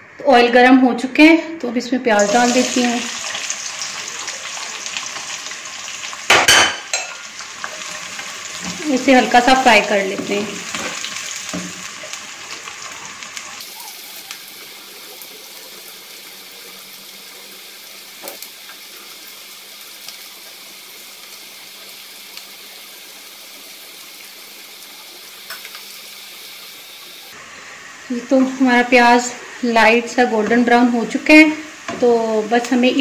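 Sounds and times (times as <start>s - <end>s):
onions sizzling in oil: 2.2s - 33.0s.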